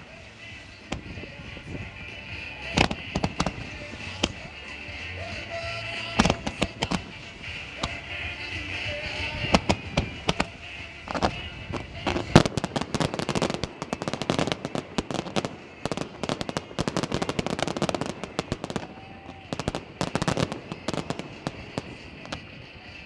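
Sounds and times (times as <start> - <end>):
firework bangs: 0.0 - 23.0
rapid firework crackling: 0.0 - 23.0.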